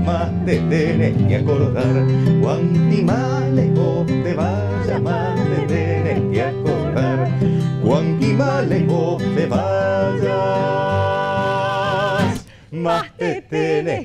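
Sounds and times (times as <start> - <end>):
acoustic guitars: 0.0 - 13.5
man and woman singing: 0.0 - 14.0.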